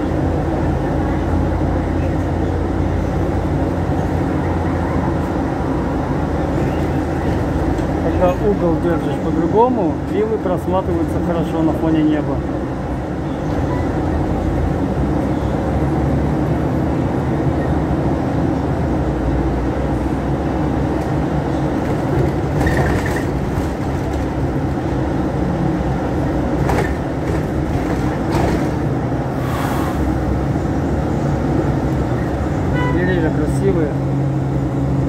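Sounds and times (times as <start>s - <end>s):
bus engine and road drone: 0.0s - 35.0s.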